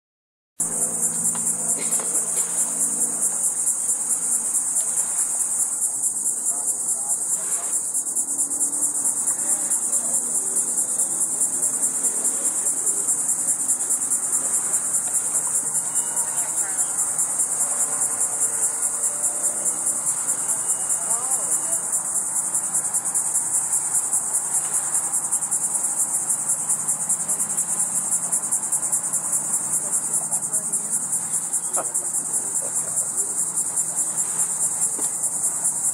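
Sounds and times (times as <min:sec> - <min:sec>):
insects trilling: 0:00.6 - 0:35.9.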